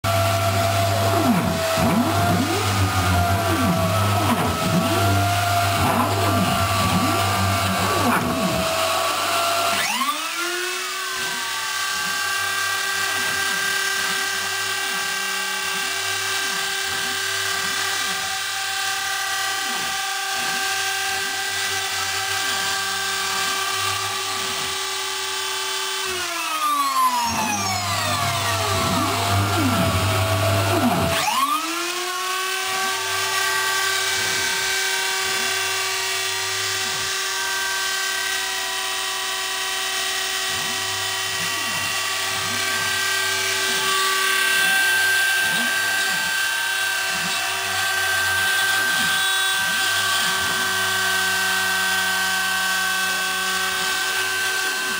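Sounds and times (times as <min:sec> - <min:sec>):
spindle motor whining: 0:00.1 - 0:54.9.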